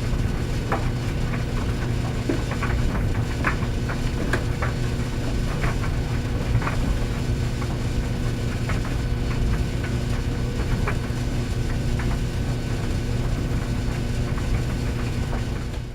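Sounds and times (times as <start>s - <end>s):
clothes dryer humming: 0.0s - 15.9s.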